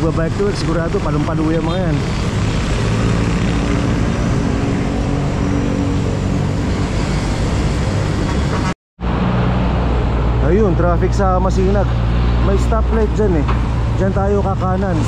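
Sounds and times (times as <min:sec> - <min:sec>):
traffic and road noise: 0:00.0 - 0:15.0.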